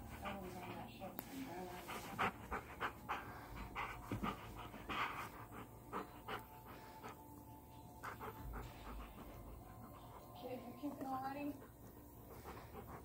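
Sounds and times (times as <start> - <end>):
puppy panting: 0.0 - 13.0.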